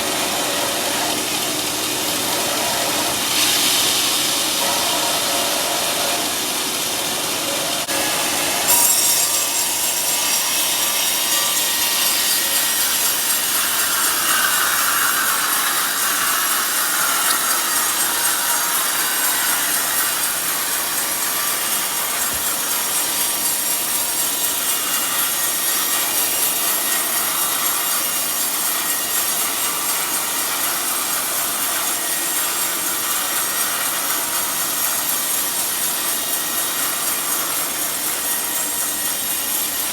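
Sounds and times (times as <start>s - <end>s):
sawmill blade cutting log: 0.1s - 39.6s.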